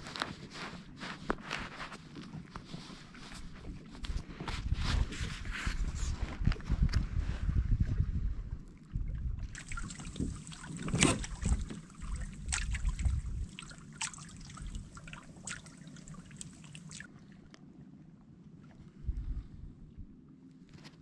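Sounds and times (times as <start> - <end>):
wind rumbling on microphone: 0.0 - 17.5, 18.7 - 21.0
water lapping against a boat hull: 0.0 - 20.0.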